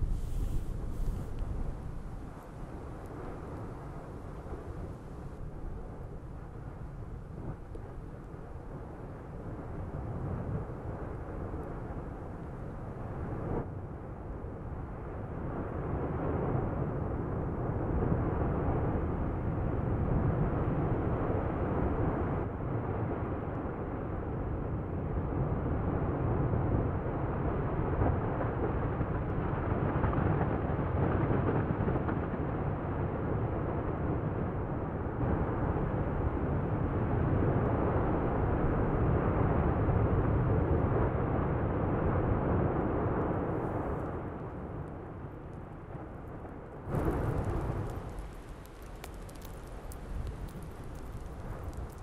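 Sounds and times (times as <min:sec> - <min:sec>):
low rumble of erupting lava: 0:00.0 - 0:52.0.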